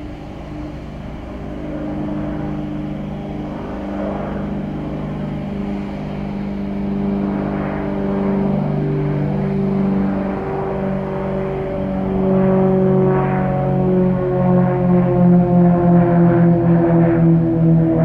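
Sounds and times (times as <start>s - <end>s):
aircraft engines passing: 0.0s - 18.0s.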